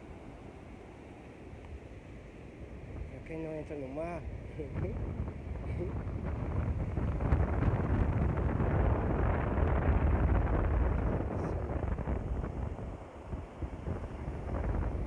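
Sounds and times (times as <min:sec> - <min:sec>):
wind buffeting microphone: 0:02.6 - 0:15.0.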